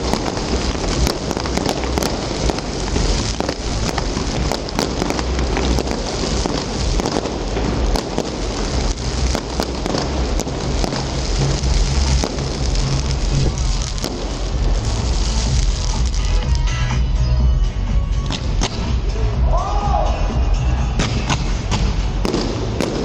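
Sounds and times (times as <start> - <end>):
fireworks pops: 0.0 - 16.7, 18.2 - 19.0, 21.0 - 23.0
fireworks crackling: 0.0 - 19.4, 20.5 - 23.0
low rumble: 0.0 - 23.0.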